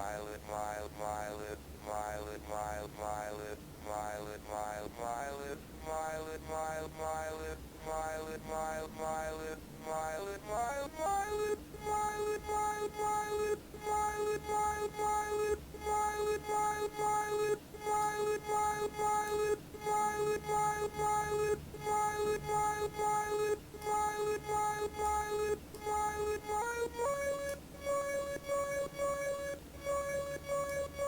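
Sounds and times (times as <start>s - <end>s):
synthesizer pulsing single note: 0.0s - 31.0s.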